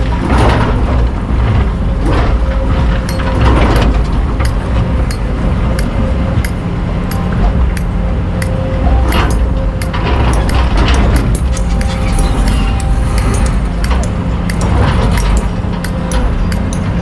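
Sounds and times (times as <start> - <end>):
excavator diesel engine under load: 0.0 - 17.0
rushing noise: 0.0 - 17.0.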